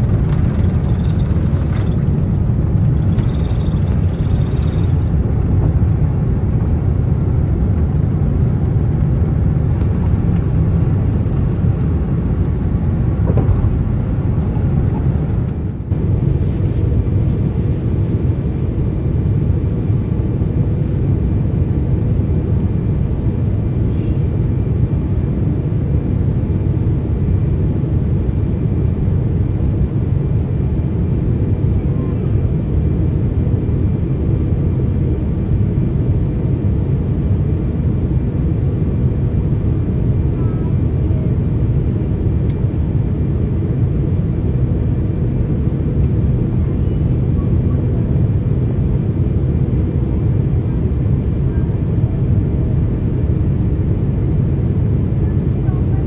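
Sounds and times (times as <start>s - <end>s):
airliner cabin engine roar: 0.0s - 56.0s.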